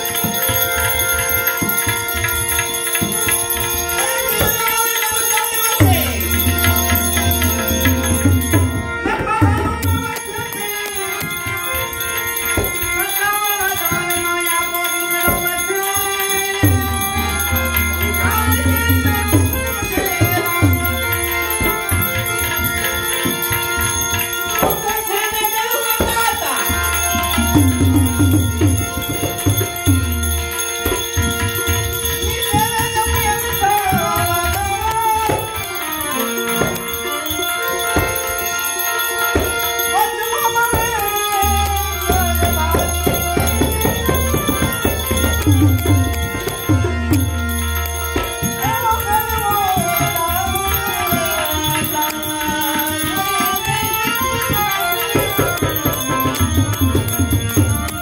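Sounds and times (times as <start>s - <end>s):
tabla strokes: 0.0s - 14.4s, 15.2s - 35.6s, 39.3s - 58.0s
hand cymbals ringing: 0.0s - 58.0s
harmonium chords: 0.0s - 58.0s.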